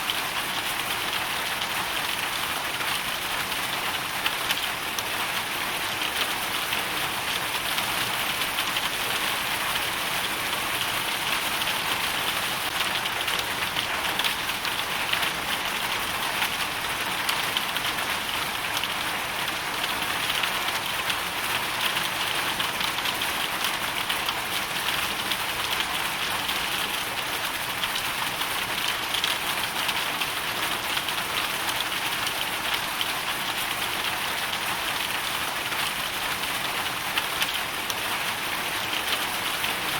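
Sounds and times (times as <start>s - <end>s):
hail and rain pattering: 0.0s - 39.9s.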